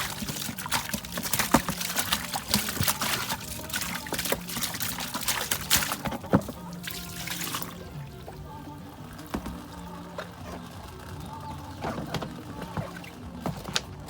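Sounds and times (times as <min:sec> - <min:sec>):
clatter of objects in water: 0:00.0 - 0:07.8, 0:09.2 - 0:14.0
water pouring and trickling: 0:00.0 - 0:14.0.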